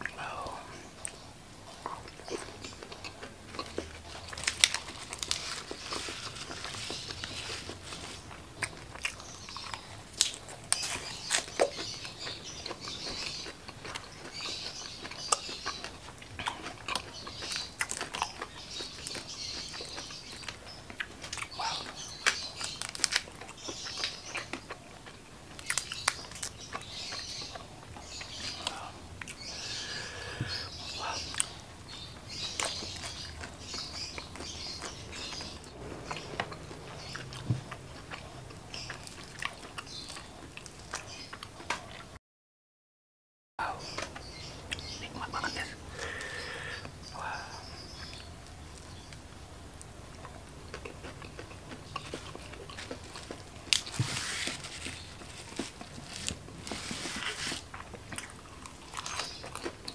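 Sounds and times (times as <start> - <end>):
crunching food: 0.0 - 42.1, 43.8 - 47.0, 47.7 - 59.9.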